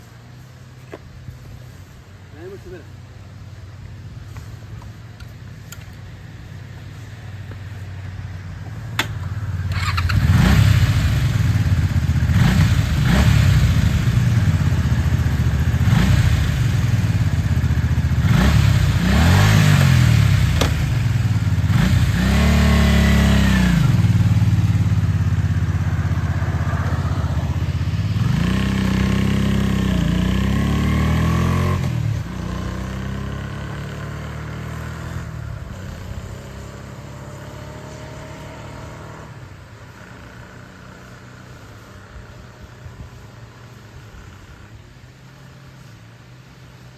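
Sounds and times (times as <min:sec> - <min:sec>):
motorcycle engine accelerating: 0:06.9 - 0:46.9.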